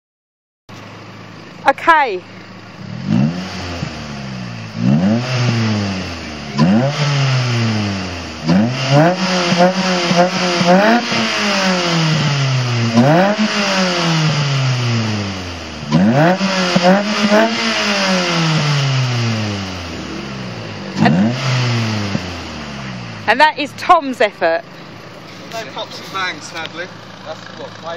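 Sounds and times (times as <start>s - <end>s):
car engine free-revving: 0.8s - 27.9s.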